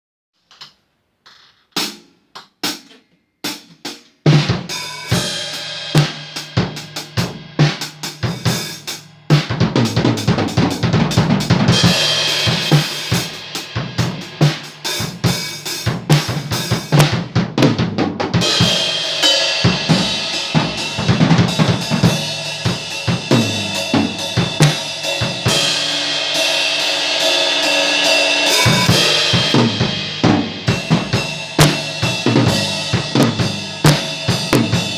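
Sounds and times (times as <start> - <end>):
drum kit playing: 1.8 - 34.9.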